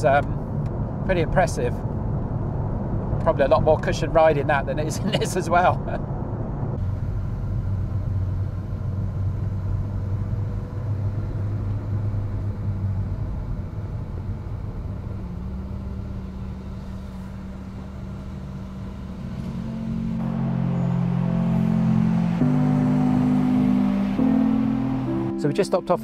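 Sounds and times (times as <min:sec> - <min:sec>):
car engine drone in cabin: 0:00.0 - 0:26.0
road noise: 0:00.0 - 0:26.0.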